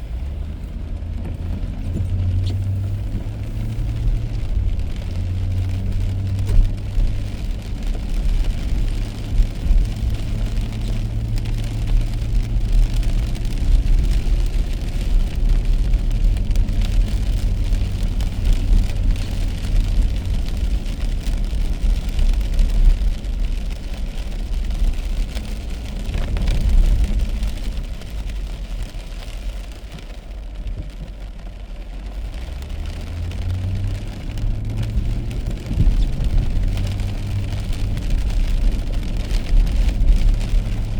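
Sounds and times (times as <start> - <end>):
car engine and road rumble: 0.0 - 40.9
tyres hissing on wet road: 0.0 - 40.9.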